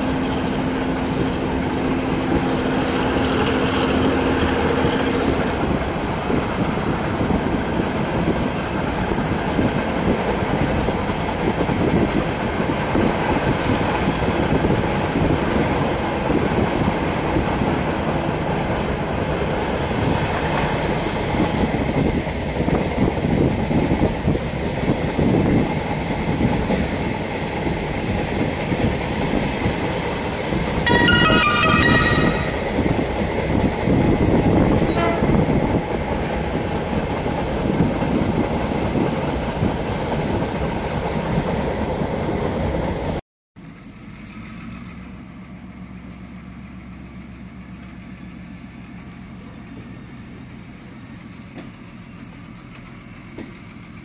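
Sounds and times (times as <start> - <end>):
train rumbling on track: 0.0 - 54.0.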